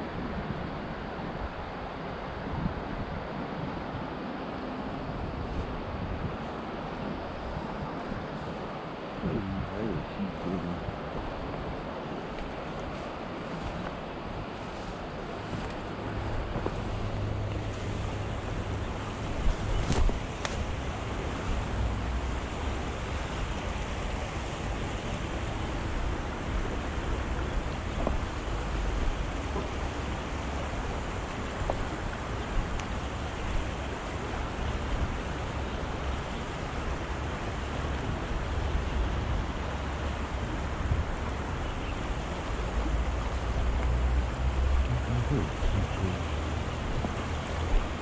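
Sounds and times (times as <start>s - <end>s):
wind buffeting microphone: 0.0s - 48.0s
stream running over stones: 5.4s - 48.0s.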